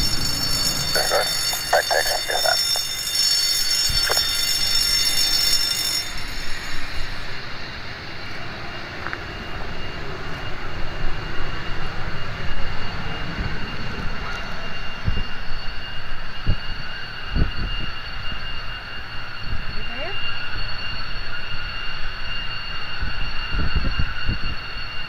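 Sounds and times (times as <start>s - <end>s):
jet engine whine over rumble: 0.0s - 25.0s.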